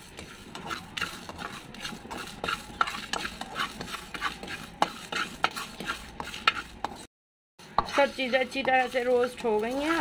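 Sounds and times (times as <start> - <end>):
spices scraping across a pan: 0.0 - 10.0.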